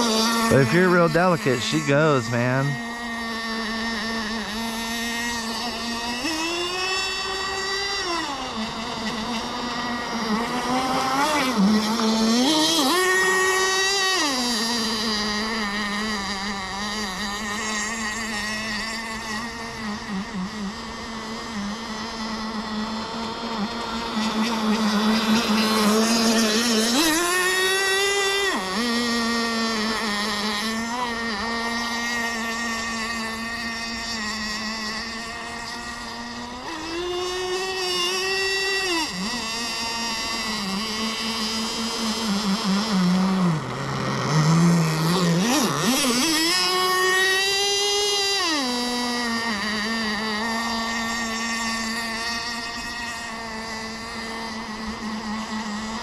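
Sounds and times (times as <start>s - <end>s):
model boat engine revving: 0.0s - 56.0s.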